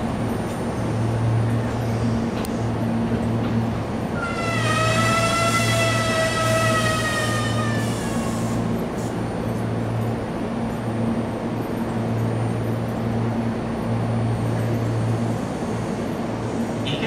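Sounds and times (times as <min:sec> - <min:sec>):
train equipment low hum: 0:00.0 - 0:17.0.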